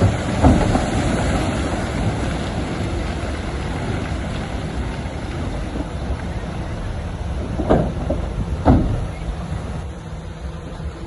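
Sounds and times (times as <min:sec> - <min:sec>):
diesel earthmoving machinery rumbling: 0:00.0 - 0:11.0.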